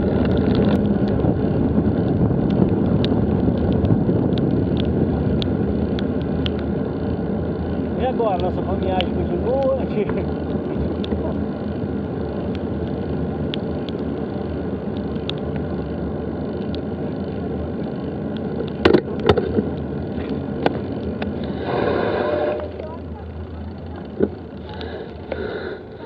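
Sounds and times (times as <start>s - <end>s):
bike tyres rolling on dirt: 0.0s - 26.0s
rushing wind: 0.0s - 26.0s.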